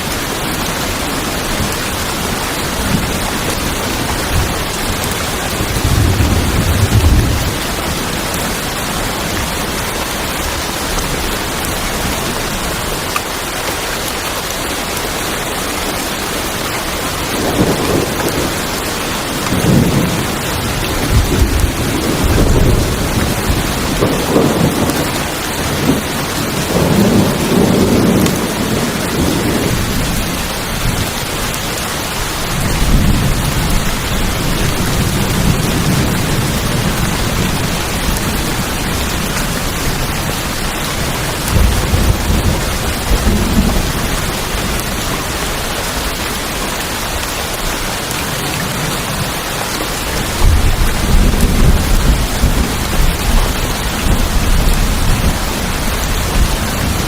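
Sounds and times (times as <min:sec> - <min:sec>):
heavy rain on a tin roof: 0:00.0 - 0:57.0
rolling thunder rumbles: 0:01.4 - 0:13.0, 0:17.3 - 0:31.5, 0:32.3 - 0:46.1, 0:49.9 - 0:57.0.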